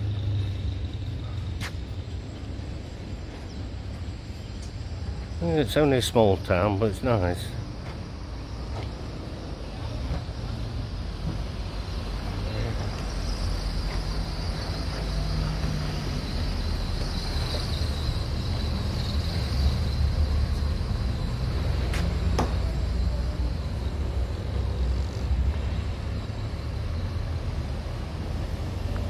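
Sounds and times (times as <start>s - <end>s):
street background rumble: 0.0s - 29.0s.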